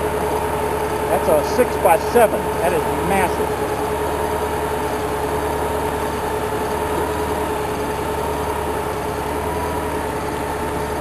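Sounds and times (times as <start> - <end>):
mechanical drone with whine: 0.0 - 11.0.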